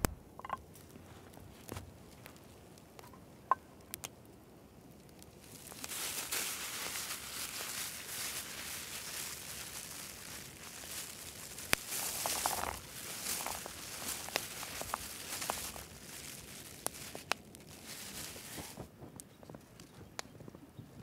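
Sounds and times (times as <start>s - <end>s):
steaming pot crackling hiss: 0.0s - 19.0s.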